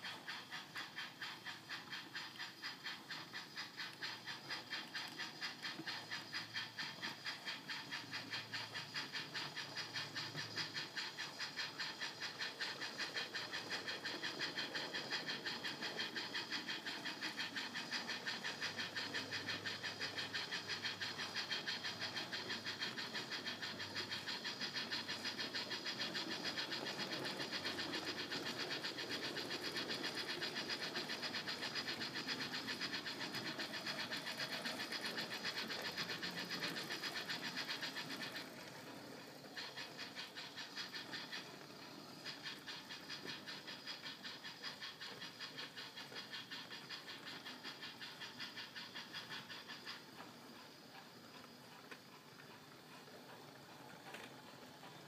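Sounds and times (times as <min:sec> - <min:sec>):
model steam locomotive chuffs: 0:00.0 - 0:55.0
model wagon wheels rumbling on track: 0:00.0 - 0:55.0.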